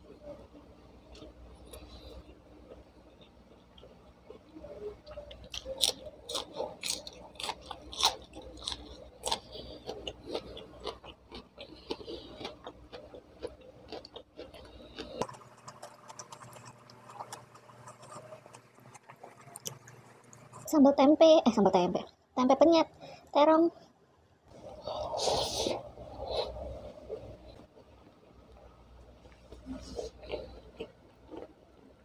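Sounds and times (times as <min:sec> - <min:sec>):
person chewing and eating: 0:01.0 - 0:20.7, 0:24.5 - 0:32.0.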